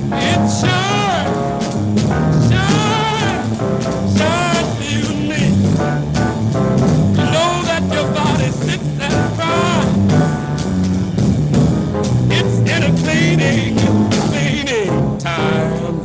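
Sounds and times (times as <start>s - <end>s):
drum and cymbal hits: 0.0s - 14.6s
walking bass line: 0.0s - 16.0s.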